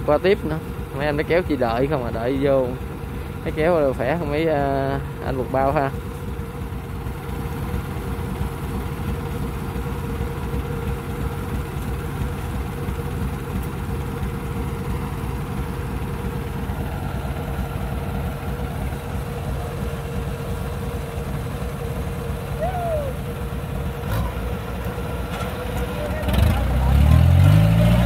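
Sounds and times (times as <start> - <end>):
engine drone: 0.0 - 28.0.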